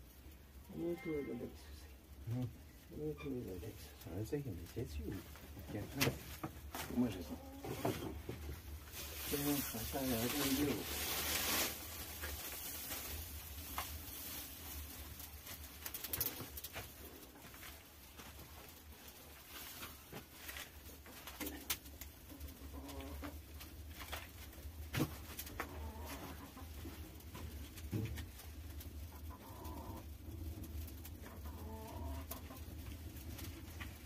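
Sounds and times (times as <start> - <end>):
low fire rumble: 0.0 - 34.0
straw fire crackling: 0.0 - 34.0.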